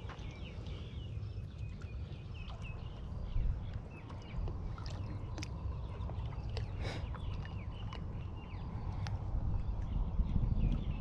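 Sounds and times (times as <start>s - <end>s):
small birds chirping: 0.0s - 11.0s
wind rumble on microphone: 0.0s - 11.0s.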